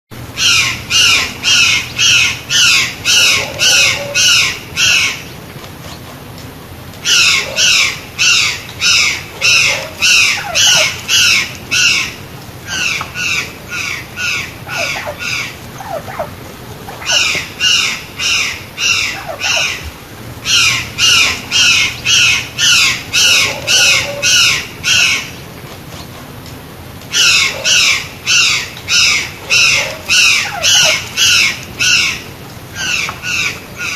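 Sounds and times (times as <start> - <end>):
jay calling: 0.4 - 5.3, 7.0 - 25.4, 27.1 - 33.9.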